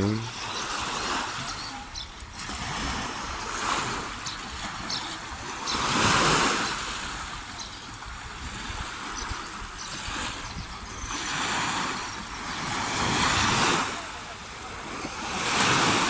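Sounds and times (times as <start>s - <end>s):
open water rushing: 0.0s - 16.0s
wind on microphone: 0.0s - 16.0s.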